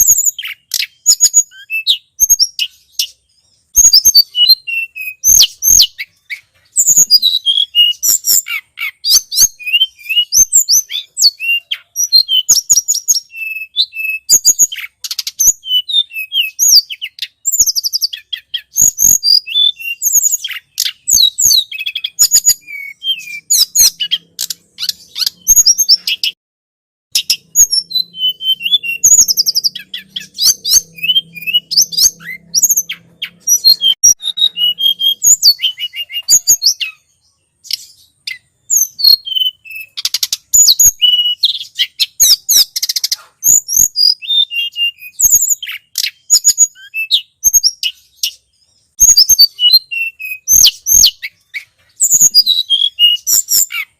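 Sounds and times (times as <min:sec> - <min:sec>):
bird chirping and ticking: 0:00.0 - 0:26.4, 0:27.1 - 0:53.9.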